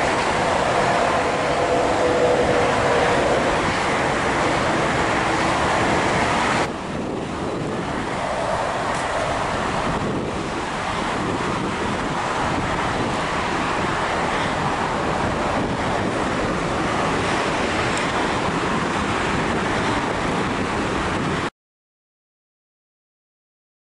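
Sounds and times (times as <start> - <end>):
airliner roar on the ground: 0.0 - 21.5
wind on microphone: 0.0 - 21.5.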